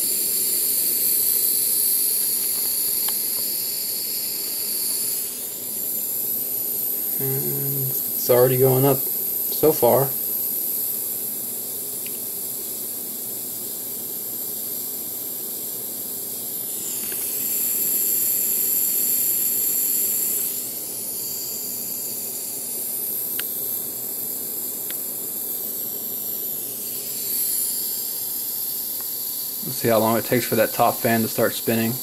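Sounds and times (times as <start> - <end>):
blowtorch flame hissing: 0.0 - 32.0.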